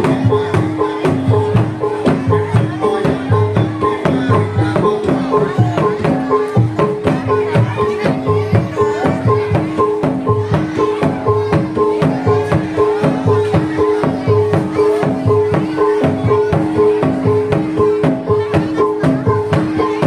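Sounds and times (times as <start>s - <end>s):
hand drums beating quickly: 0.0s - 20.0s.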